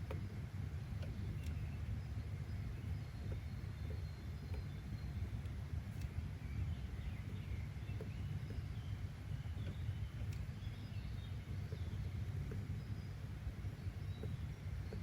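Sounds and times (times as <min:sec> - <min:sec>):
steady low rumble: 0:00.0 - 0:15.0
faint bird chirps: 0:00.8 - 0:15.0.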